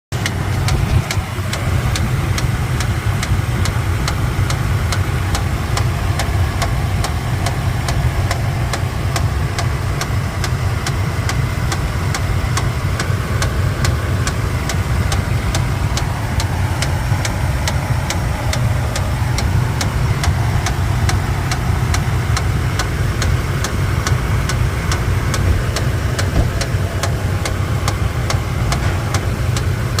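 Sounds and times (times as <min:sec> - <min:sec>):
truck engine idling: 0:00.0 - 0:30.0
engine knocking: 0:00.1 - 0:30.0.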